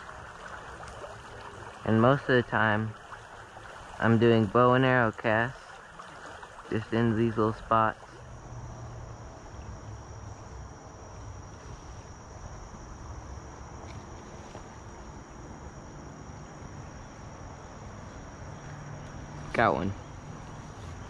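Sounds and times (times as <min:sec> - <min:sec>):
shrill insect chorus: 0:00.0 - 0:21.0
stream water: 0:00.0 - 0:21.0.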